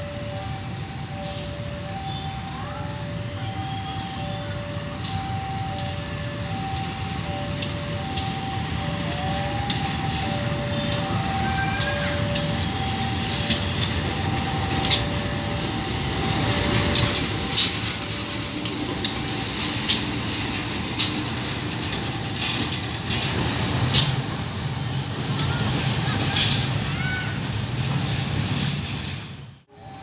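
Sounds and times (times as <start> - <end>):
two-tone level crossing alarm: 0.0 - 26.6, 29.7 - 30.0
train rumbling past: 0.0 - 30.0.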